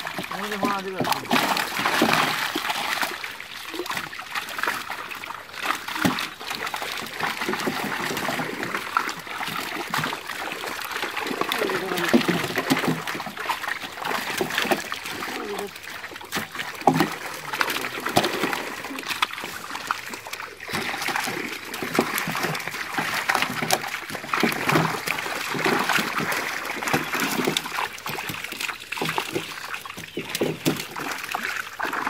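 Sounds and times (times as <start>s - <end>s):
water splashing and dripping: 0.0s - 32.0s.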